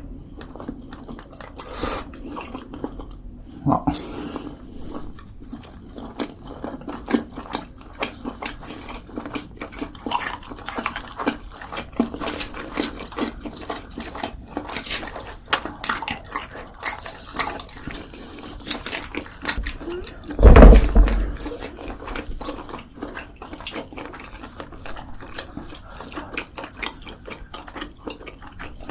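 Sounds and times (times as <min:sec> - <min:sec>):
wet chewing and mouth smacks: 0:00.3 - 0:03.2, 0:04.9 - 0:20.4, 0:21.4 - 0:28.9.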